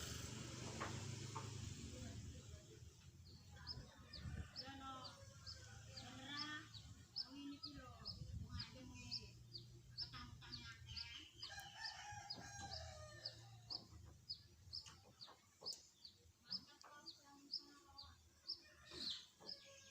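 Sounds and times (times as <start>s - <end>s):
birds chirping: 0.8s - 19.9s.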